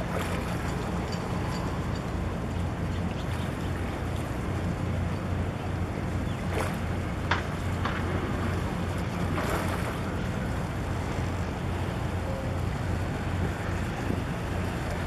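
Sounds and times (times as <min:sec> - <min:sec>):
boat engine droning: 0:00.0 - 0:15.0
water slapping and splashing: 0:00.0 - 0:15.0.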